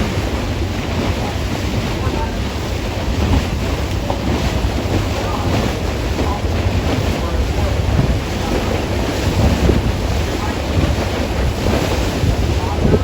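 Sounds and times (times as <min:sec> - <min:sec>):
boat and water rumble: 0:00.0 - 0:13.0
wind buffeting microphone: 0:00.0 - 0:13.0.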